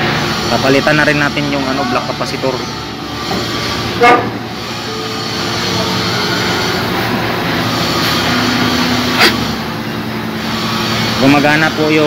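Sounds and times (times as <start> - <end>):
air conditioner compressor humming: 0.0 - 12.0.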